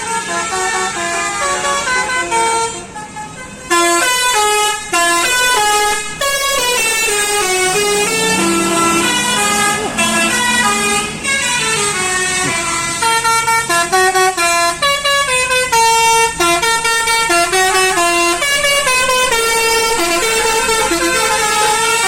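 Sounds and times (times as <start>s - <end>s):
musical bus horn: 0.0s - 22.0s.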